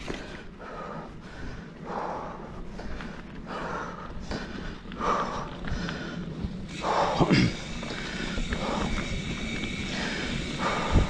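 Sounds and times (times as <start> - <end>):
bike rattling on dirt trail: 0.0 - 11.0
rider breathing hard: 0.0 - 11.0.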